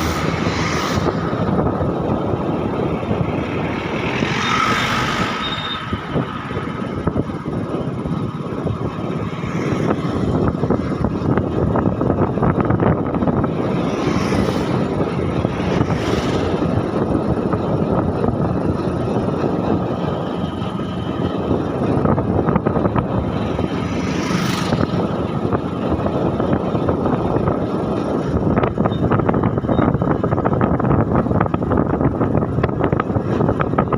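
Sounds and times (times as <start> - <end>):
motor vehicle rumble: 0.0 - 33.9.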